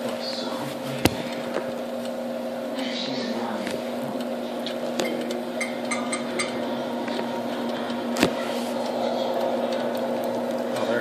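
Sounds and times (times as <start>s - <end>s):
eggs frying crackles: 0.0s - 11.0s
oven motor humming: 0.0s - 11.0s.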